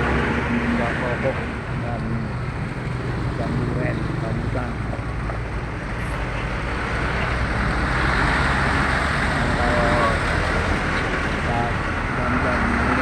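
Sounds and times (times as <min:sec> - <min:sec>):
heavy trucks driving past: 0:00.0 - 0:13.0.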